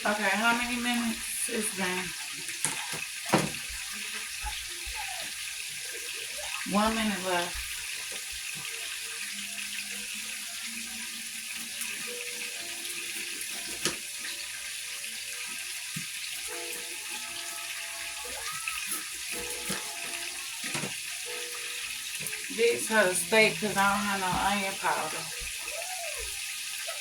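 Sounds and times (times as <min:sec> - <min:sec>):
steak sizzling in a frying pan: 0:00.0 - 0:27.0.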